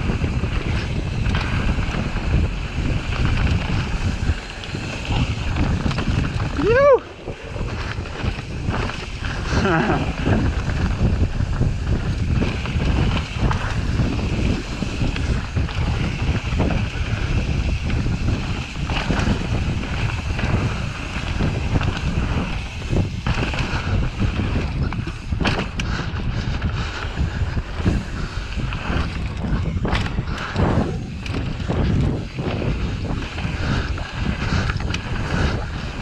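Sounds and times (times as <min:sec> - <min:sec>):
bike rattling over bumps: 0:00.0 - 0:36.0
low tyre rumble: 0:00.0 - 0:36.0
wind buffeting microphone: 0:00.0 - 0:36.0.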